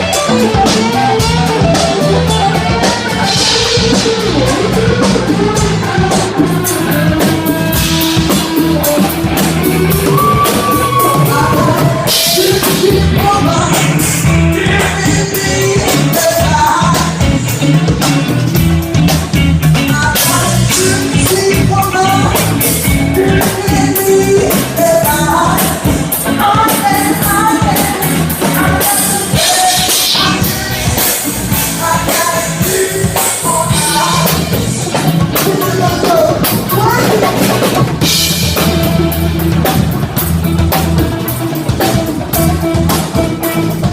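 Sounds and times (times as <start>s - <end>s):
person singing: 0.0s - 39.8s
drum kit: 0.0s - 43.9s
electric bass: 0.0s - 43.9s
electric guitar: 0.0s - 43.9s.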